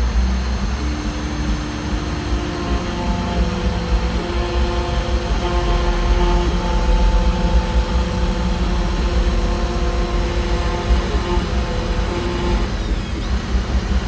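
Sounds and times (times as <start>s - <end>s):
cnc router humming: 0.0s - 14.0s
whining motor tones: 0.0s - 14.0s.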